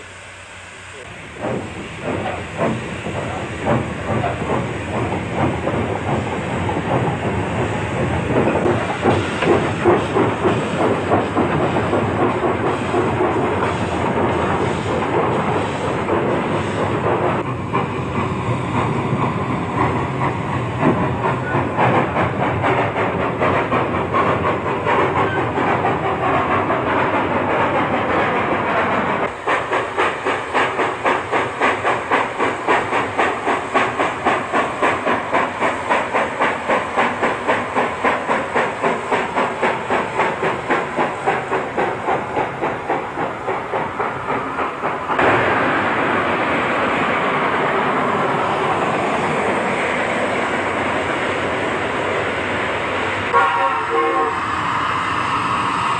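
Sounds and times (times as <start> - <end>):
steam hissing: 0.0 - 55.9
steam locomotive exhaust chuffing: 0.0 - 55.9.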